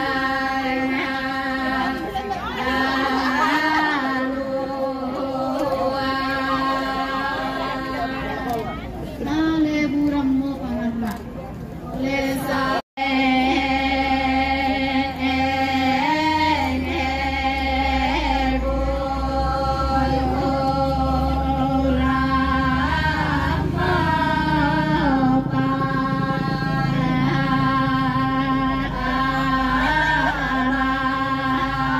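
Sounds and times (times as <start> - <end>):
women chanting in held notes: 0.0 - 11.0, 12.0 - 31.9.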